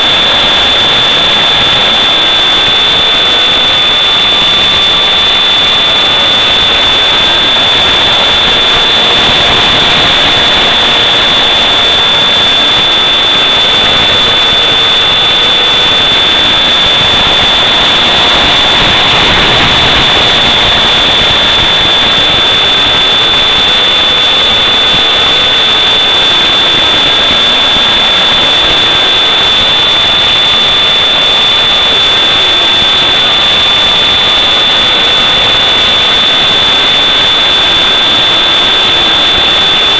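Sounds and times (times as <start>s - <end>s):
high-pitched whine: 0.0s - 39.9s
loud steady hiss: 0.0s - 39.9s
motor tone: 0.0s - 39.9s.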